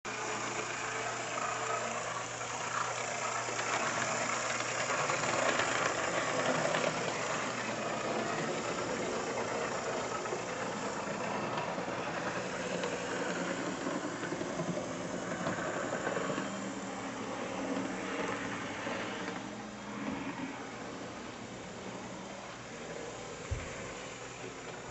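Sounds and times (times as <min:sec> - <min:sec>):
model locomotive motor whirr: 0:00.1 - 0:24.9.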